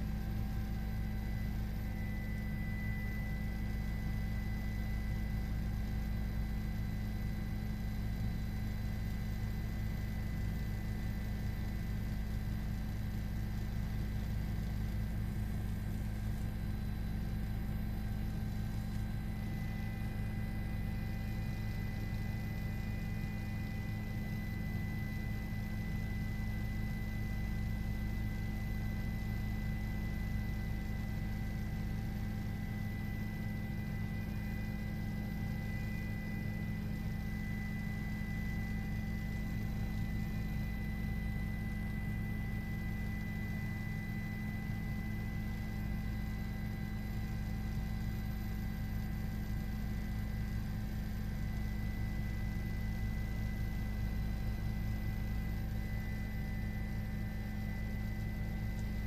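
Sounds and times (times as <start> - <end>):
helicopter engine and rotor: 0.0 - 59.0
thin steady whine: 0.0 - 59.0.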